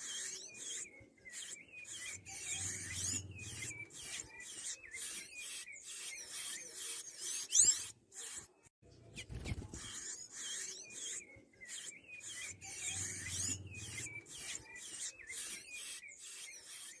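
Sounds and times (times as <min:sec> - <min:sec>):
bird singing squeaky notes: 0:00.0 - 0:08.6, 0:09.2 - 0:17.0.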